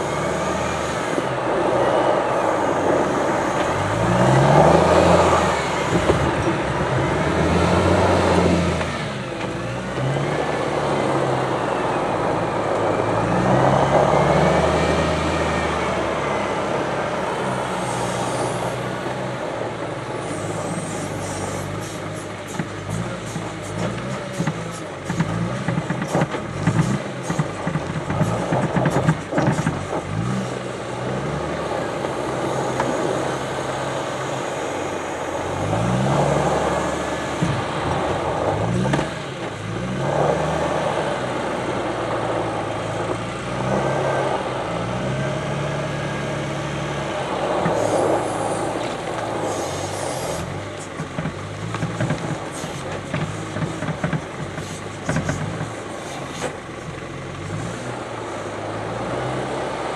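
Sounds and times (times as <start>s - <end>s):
wheel loader engine revving: 0.0s - 59.9s.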